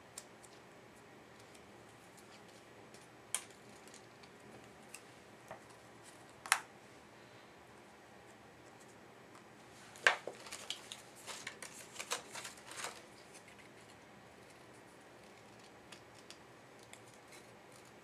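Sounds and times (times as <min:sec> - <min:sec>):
faint room hiss: 0:00.0 - 0:18.0.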